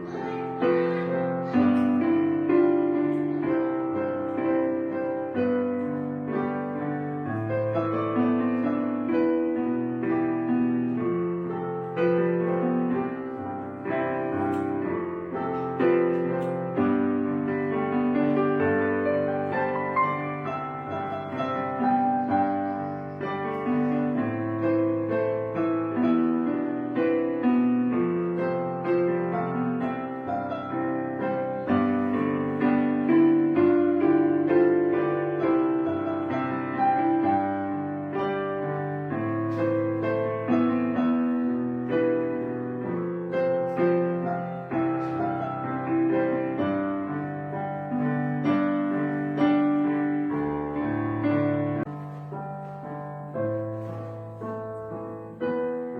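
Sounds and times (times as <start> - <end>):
gentle piano music: 0.0 - 55.9.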